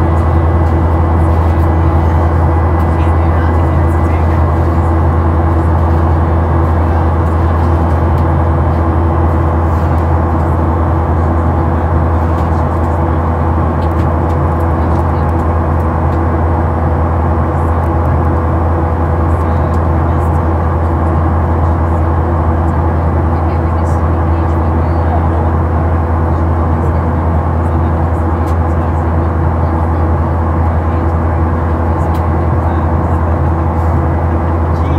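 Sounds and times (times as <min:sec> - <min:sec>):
jet engine drone in cabin: 0:00.0 - 0:34.9.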